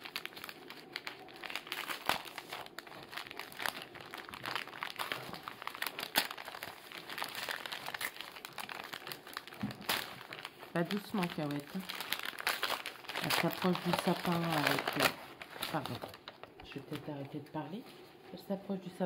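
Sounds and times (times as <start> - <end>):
plastic bag crinkling: 0.0 - 17.2.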